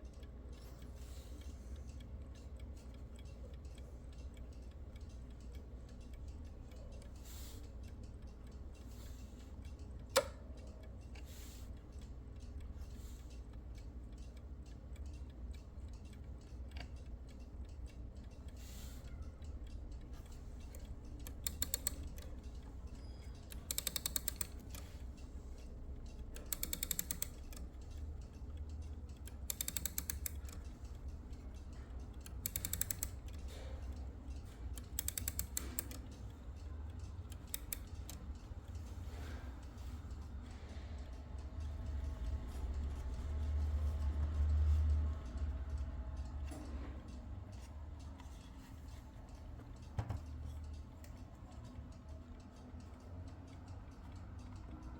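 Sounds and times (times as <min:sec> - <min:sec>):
alarm clock key winding clicks: 0:00.0 - 0:54.9.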